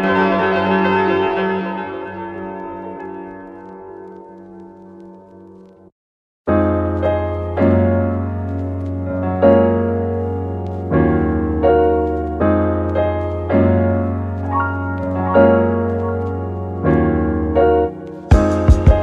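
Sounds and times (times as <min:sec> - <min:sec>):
piano music with bass: 0:00.0 - 0:05.2, 0:06.5 - 0:19.0.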